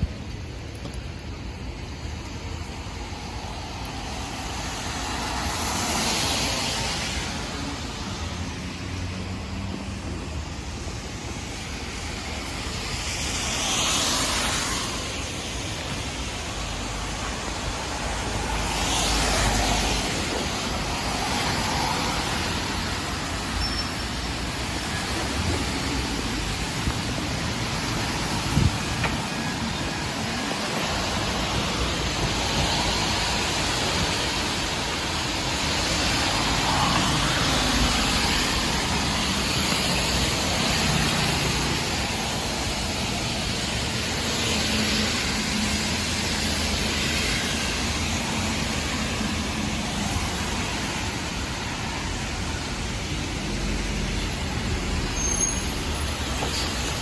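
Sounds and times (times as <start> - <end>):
rain hiss: 0.0 - 57.0
tyres hissing on wet asphalt: 0.0 - 57.0.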